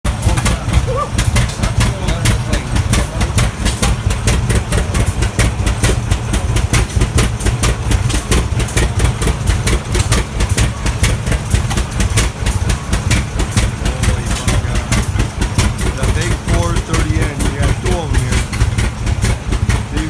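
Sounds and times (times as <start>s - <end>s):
tractor engine idling with popping: 0.0s - 20.0s.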